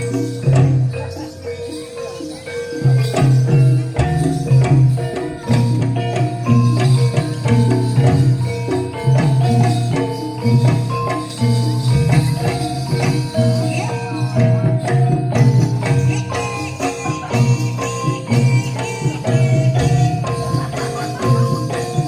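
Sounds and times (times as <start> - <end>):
hand percussion: 0.0 - 22.0
metallophones ringing melody: 0.0 - 22.0.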